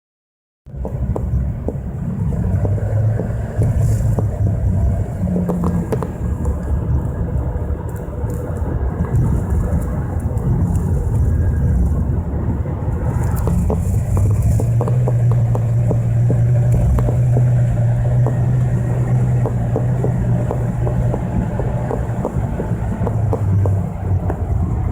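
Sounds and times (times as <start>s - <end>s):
car engine rumbling: 0.7s - 24.9s
steady low drone: 0.7s - 24.9s
light crackling: 0.8s - 24.9s.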